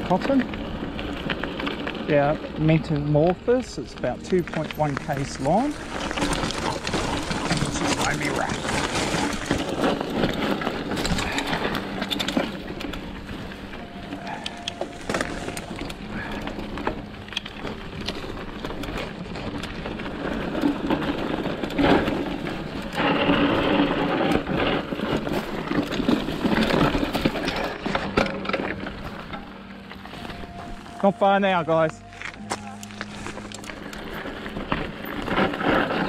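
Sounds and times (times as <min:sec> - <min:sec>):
tyres crunching over rocks: 0:00.0 - 0:36.0.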